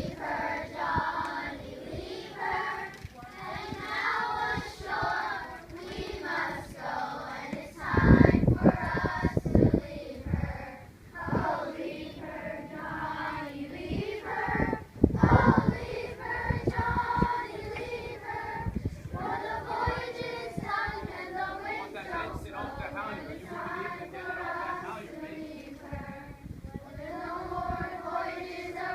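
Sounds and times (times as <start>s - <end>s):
children singing together: 0.0s - 22.2s, 23.2s - 28.9s.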